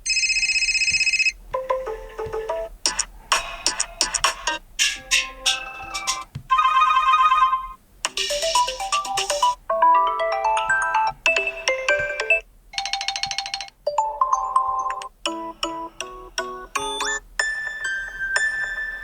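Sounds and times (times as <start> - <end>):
electronic ringtone tunes: 0.0 - 3.0, 4.5 - 19.0.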